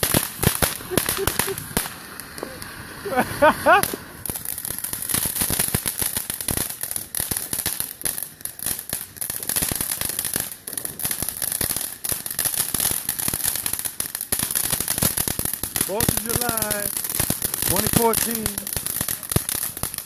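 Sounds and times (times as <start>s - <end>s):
firework fountain hissing and crackling: 0.0s - 20.0s.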